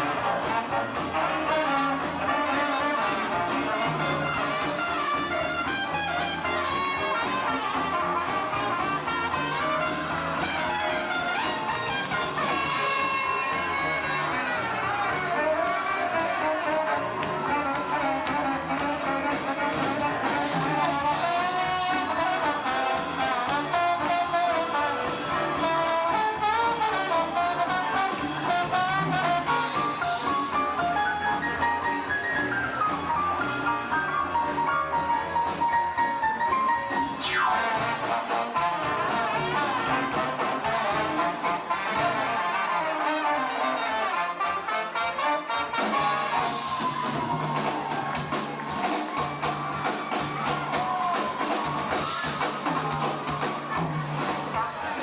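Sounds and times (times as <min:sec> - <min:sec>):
trumpet and trombone: 0:00.0 - 0:31.6, 0:36.8 - 0:55.0
steady drum beat: 0:00.0 - 0:42.4, 0:45.4 - 0:55.0
horns playing melody: 0:00.0 - 0:55.0
swing band playing: 0:00.0 - 0:55.0.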